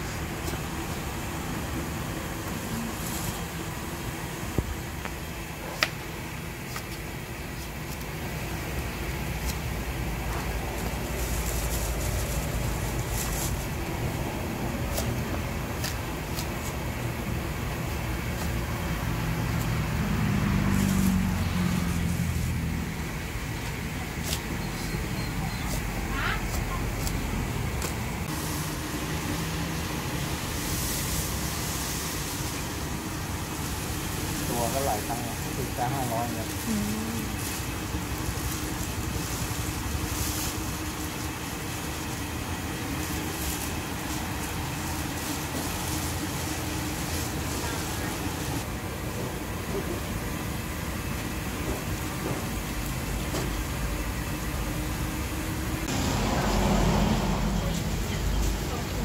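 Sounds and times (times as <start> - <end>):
low rumble with engine hum: 0.0 - 59.0.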